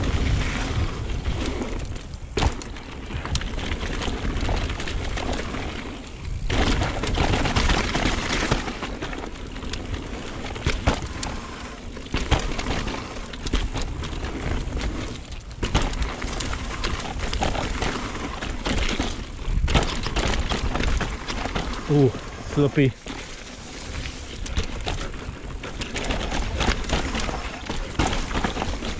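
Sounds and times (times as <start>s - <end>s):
bike rattling over bumps: 0.0s - 28.9s
bike tyres on gravel: 0.0s - 28.9s.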